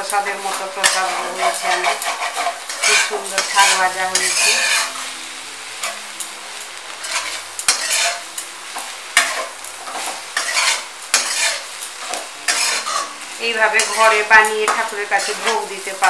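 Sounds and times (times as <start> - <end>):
frying sizzle: 0.0 - 16.0
metal spatula scraping a wok: 0.3 - 5.1, 7.0 - 8.2, 9.2 - 16.0.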